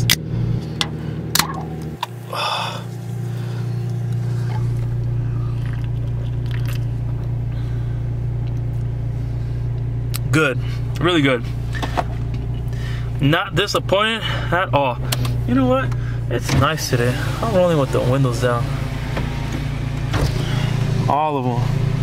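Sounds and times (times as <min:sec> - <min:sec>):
car engine humming in cabin: 0:00.0 - 0:22.0.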